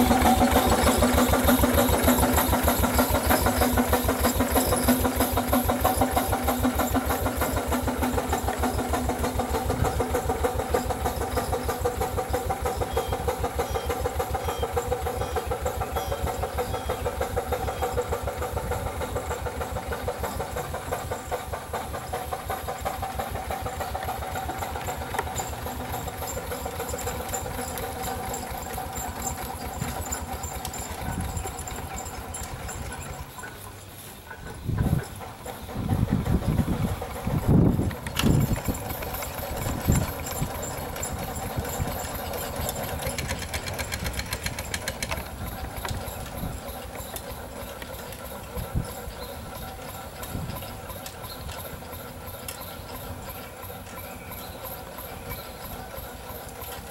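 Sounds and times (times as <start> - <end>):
steam engine exhaust chuffing: 0.0 - 56.9.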